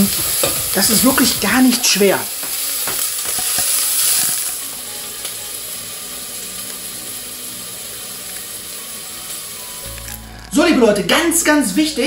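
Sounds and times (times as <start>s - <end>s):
food sizzling in frying pan: 0.0s - 11.8s.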